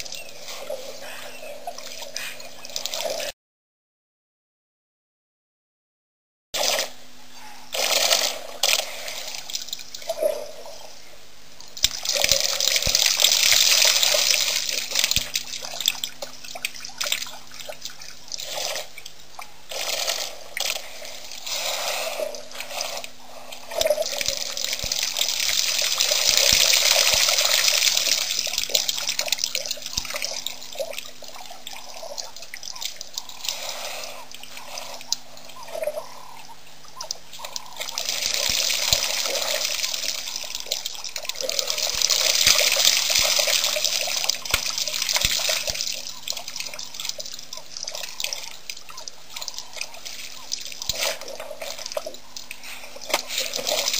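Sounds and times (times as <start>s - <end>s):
water dripping: 0.0s - 3.3s, 7.7s - 11.0s, 11.6s - 53.9s
water splashing and pouring: 0.0s - 3.3s, 6.6s - 7.0s, 7.7s - 10.8s, 11.6s - 36.3s, 36.9s - 53.9s.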